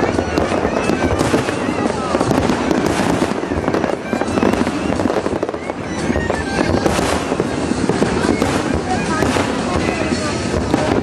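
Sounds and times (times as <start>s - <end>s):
fireworks crackling and banging: 0.0s - 11.0s
rising firework whistle: 0.0s - 11.0s.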